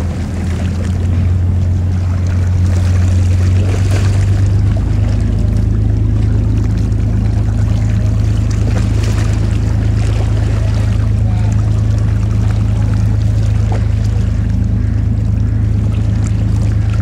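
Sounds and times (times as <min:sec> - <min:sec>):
boat engine droning: 0:00.0 - 0:17.0
water noise: 0:00.0 - 0:17.0.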